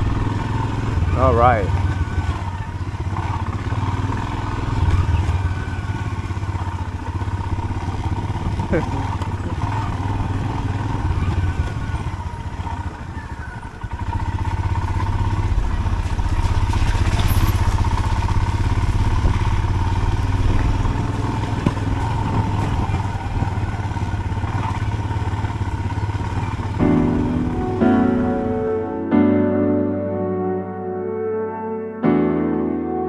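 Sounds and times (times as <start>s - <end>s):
motorcycle engine running: 0.0s - 29.1s.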